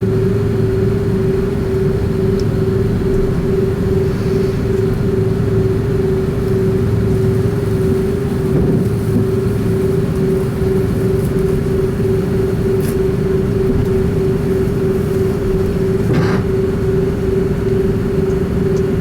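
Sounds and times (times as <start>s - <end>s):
airliner cabin rumble and drone: 0.0s - 19.0s.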